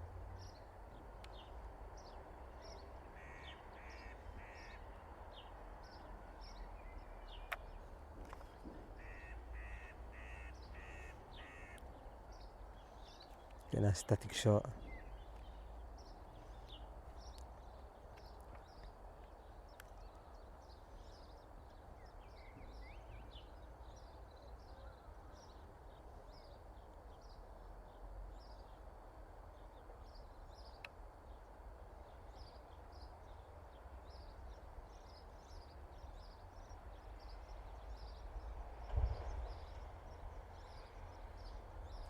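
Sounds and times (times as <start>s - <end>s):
distant road traffic hum: 0.0s - 42.0s
small birds chirping: 0.4s - 38.6s.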